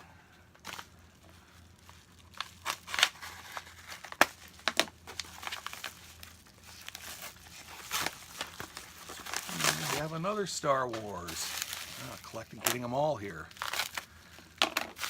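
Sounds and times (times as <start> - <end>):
packaging crinkling and rustling: 0.5 - 15.0.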